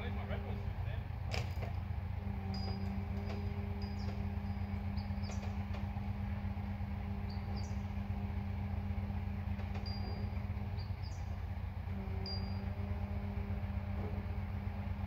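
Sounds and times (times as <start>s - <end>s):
engine running with low hum: 0.0s - 15.0s.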